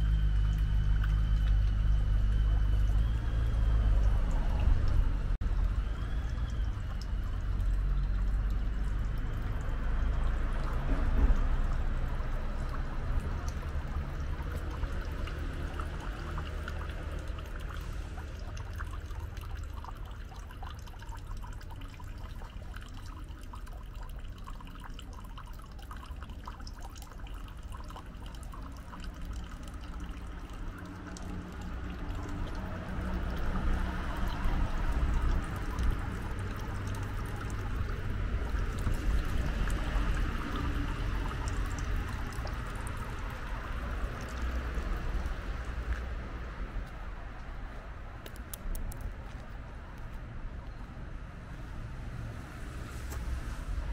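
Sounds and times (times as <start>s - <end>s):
water trickling and pouring: 0.0s - 50.9s, 51.8s - 53.9s.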